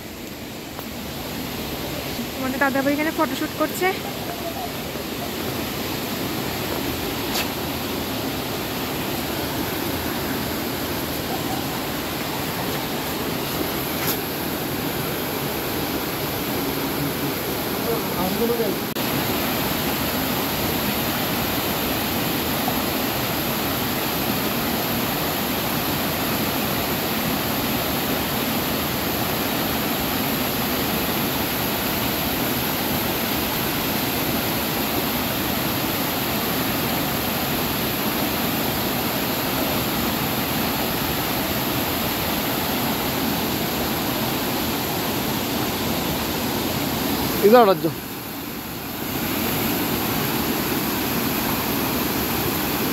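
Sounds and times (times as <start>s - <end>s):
waterfall rushing and splashing: 0.0s - 52.9s.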